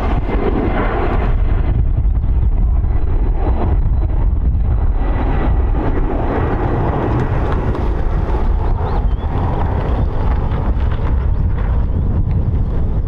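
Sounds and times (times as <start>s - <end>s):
helicopter engines and rotor: 0.0s - 13.0s
wind buffeting microphone: 0.0s - 13.0s.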